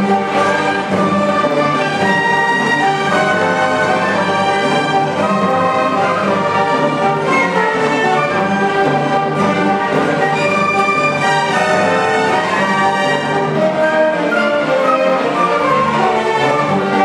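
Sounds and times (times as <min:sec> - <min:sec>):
orchestra playing: 0:00.0 - 0:17.0.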